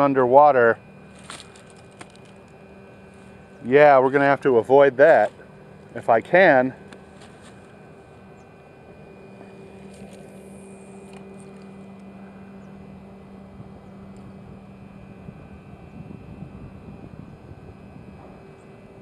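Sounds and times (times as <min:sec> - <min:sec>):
distant engine droning: 0:00.0 - 0:19.0.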